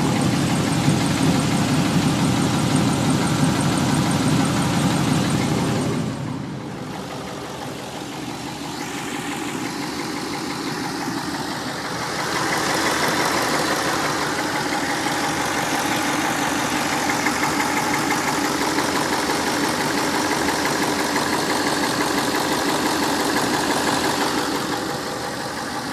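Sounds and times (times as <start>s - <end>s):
engine idling with ticking knock: 0.0s - 25.9s.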